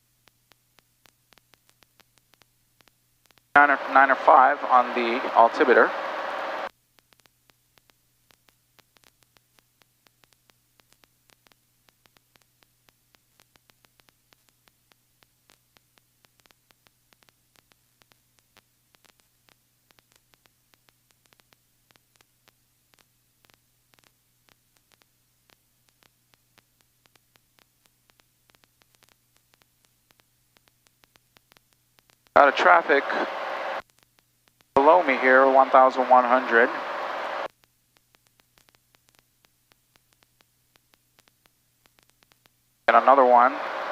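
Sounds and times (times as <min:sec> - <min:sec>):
faint electrical hum: 0:00.0 - 0:43.9
faint static clicks: 0:00.0 - 0:43.9.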